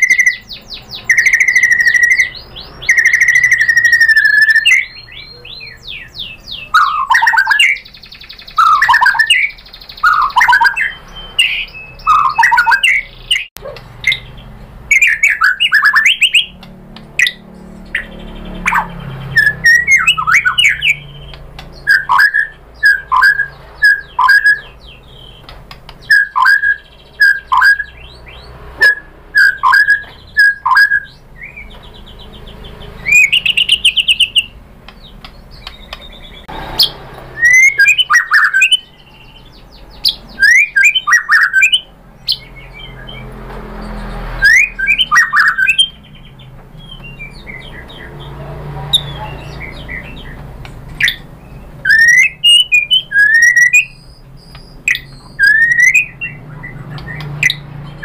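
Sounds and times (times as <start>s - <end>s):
songbird singing whistles and trills: 0.0s - 58.0s.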